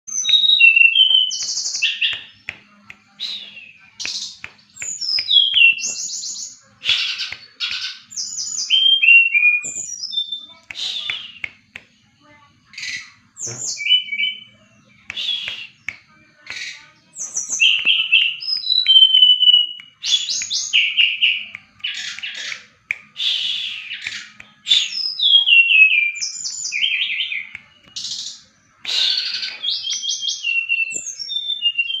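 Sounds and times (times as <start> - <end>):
songbird singing: 0.1 - 32.0.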